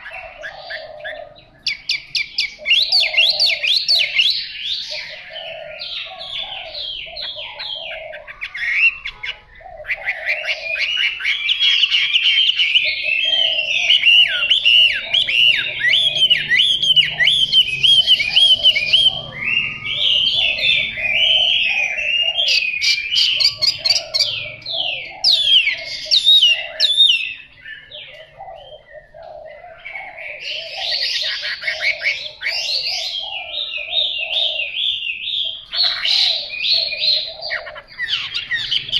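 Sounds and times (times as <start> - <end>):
bird singing whistled notes: 0.0 - 38.9.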